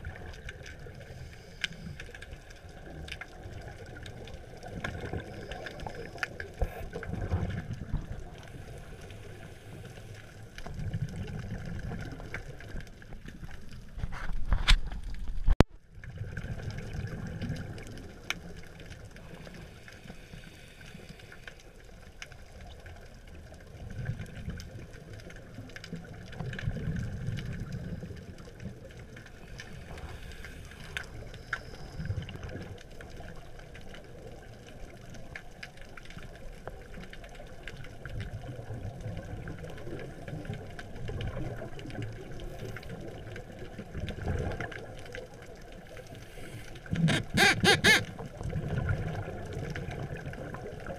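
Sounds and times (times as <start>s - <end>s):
underwater rumble of moving water: 0.0s - 50.9s
faint clicks: 0.2s - 15.6s, 17.4s - 48.2s.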